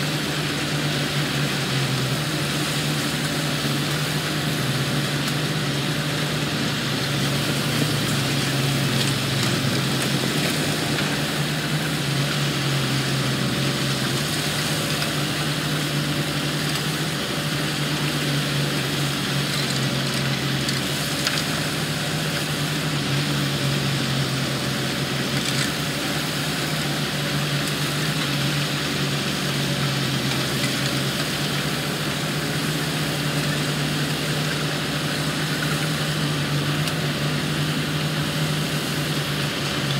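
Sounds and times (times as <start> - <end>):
diesel engine low drone: 0.0 - 39.9.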